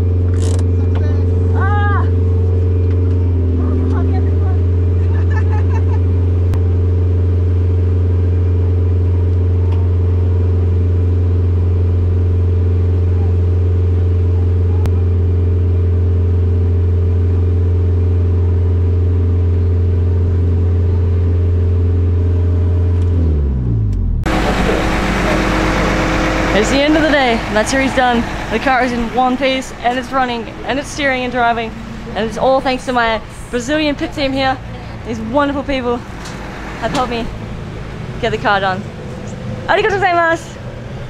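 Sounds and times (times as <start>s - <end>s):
car engine running: 0.0s - 41.0s.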